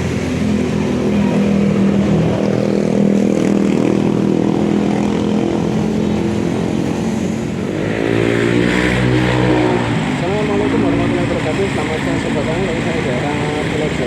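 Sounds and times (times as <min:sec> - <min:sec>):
engine droning steadily: 0:00.0 - 0:14.0.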